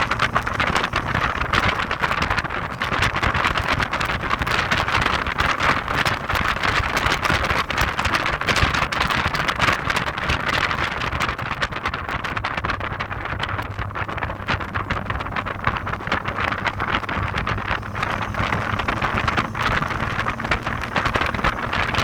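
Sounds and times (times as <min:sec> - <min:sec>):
car engine rumbling: 0:00.0 - 0:22.0
road noise: 0:00.0 - 0:22.0
wind buffeting microphone: 0:00.0 - 0:22.0.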